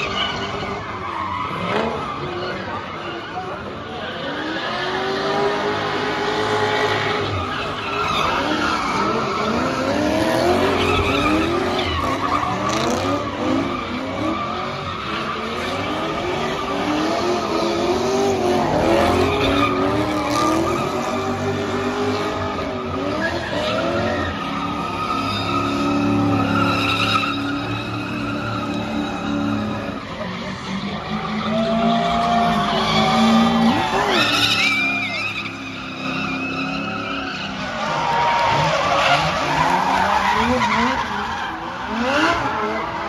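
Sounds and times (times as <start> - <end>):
car tyres squealing: 0.0 - 43.0.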